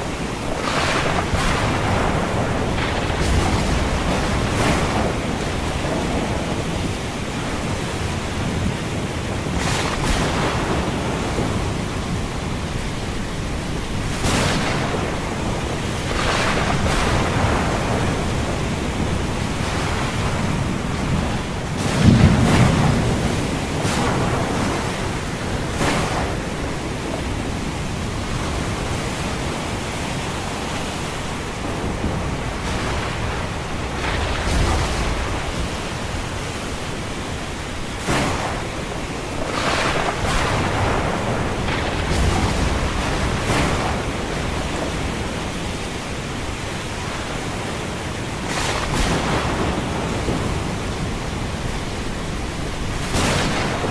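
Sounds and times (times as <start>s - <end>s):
ocean surf: 0.0s - 53.9s
rain: 0.0s - 53.9s
thunder rumble: 0.0s - 53.9s.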